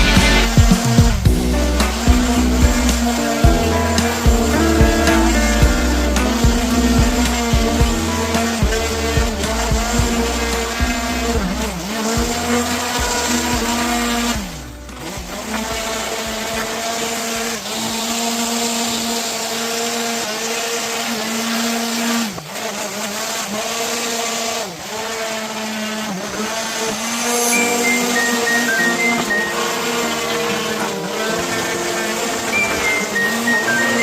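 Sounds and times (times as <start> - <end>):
power tool motor cutting wood: 0.0 - 34.0.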